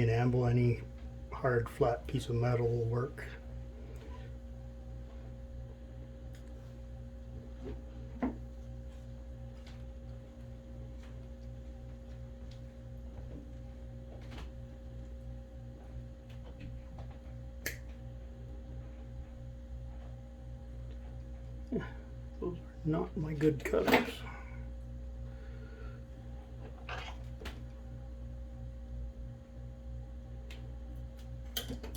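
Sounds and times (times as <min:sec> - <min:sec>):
low pulsing hum: 0:00.0 - 0:31.9.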